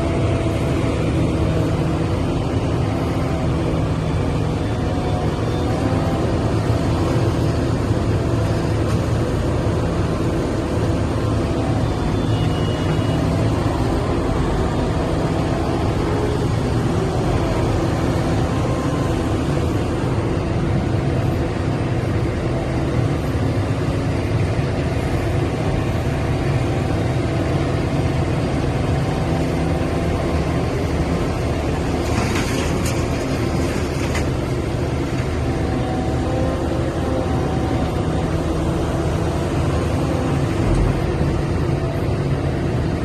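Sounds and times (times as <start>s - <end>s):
diesel engine humming: 0.0s - 43.0s.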